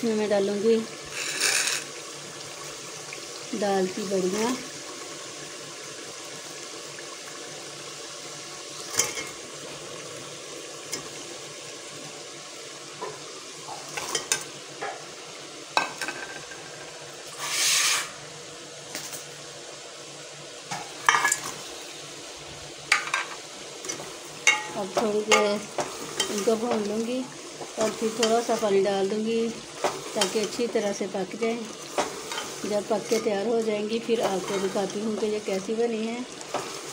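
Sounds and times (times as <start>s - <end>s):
masala sizzling in a pot: 0.0s - 36.9s.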